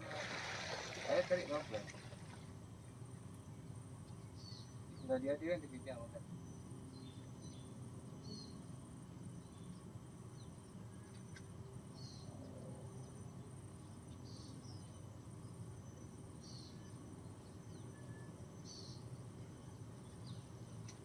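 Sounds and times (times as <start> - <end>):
insect chirps: 0.0 - 21.0
insects trilling: 0.0 - 21.0.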